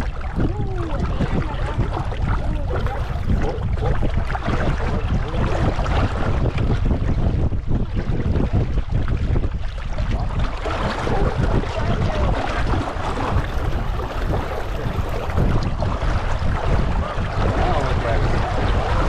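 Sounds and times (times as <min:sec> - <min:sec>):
water lapping against hull: 0:00.0 - 0:19.0
wind buffeting microphone: 0:00.0 - 0:19.0.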